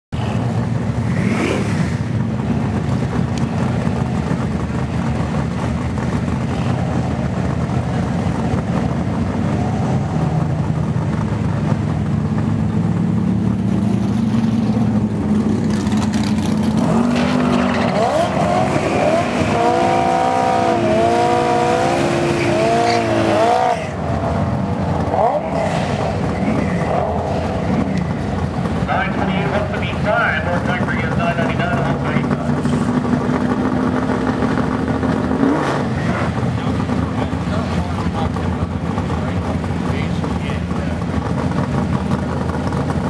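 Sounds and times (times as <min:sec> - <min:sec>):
car engine revving: 0:00.2 - 0:43.0.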